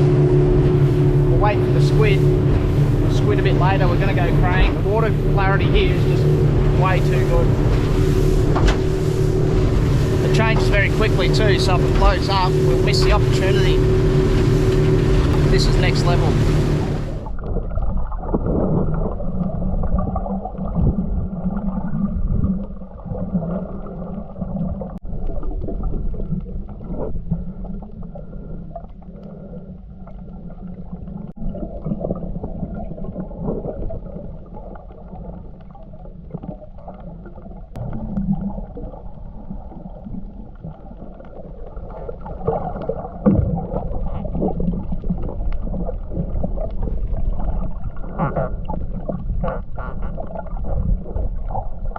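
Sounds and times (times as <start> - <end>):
underwater water gurgling: 0.0 - 51.9.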